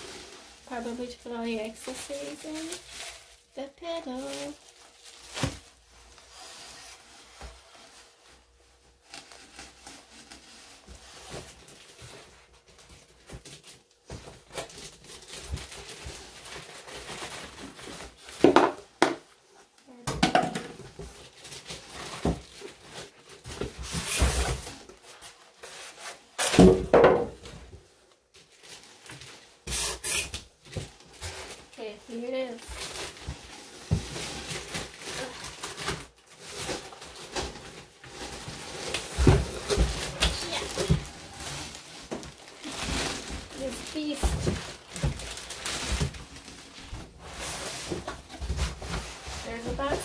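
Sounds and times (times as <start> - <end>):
packaging rustling and crinkling: 0.0 - 19.8, 20.6 - 26.8, 27.4 - 50.0.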